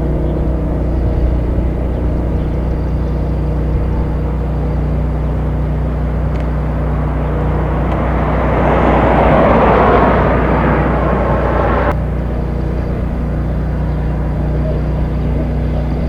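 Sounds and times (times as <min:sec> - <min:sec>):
steady low hum: 0:00.0 - 0:16.0
vehicle passing by: 0:00.0 - 0:16.0.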